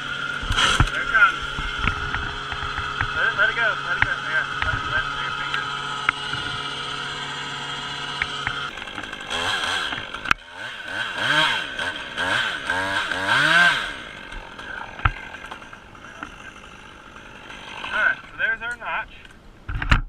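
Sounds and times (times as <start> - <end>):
chainsaw revving: 0.0 - 18.8.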